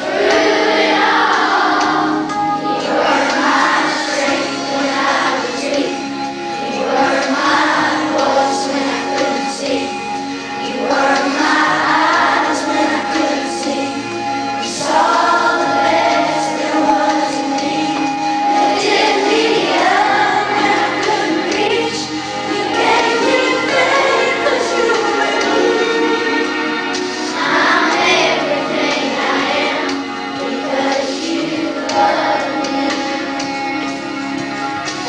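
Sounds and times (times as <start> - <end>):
children's choir singing: 0.0 - 35.0
instrumental accompaniment: 0.0 - 35.0.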